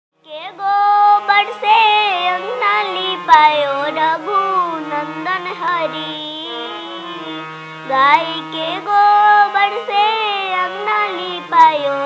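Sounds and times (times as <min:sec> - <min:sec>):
girl singing: 0:00.2 - 0:12.0.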